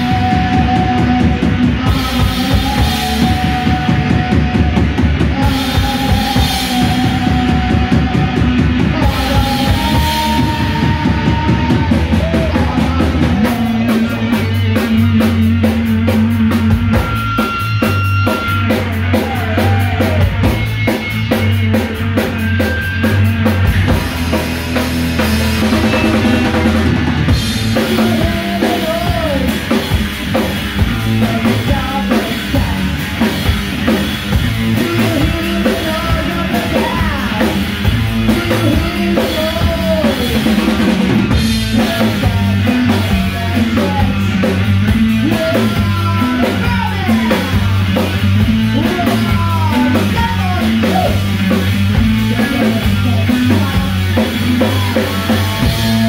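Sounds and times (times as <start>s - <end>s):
bass guitar: 0.0s - 56.0s
drum kit: 0.0s - 56.0s
electric guitar: 0.0s - 56.0s.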